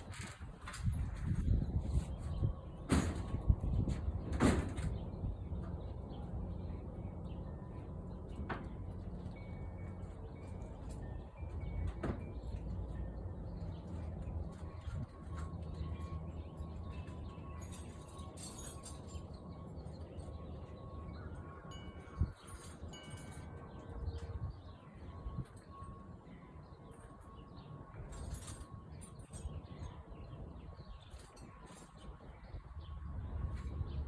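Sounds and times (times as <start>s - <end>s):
faint ringing chimes: 6.1s - 34.0s.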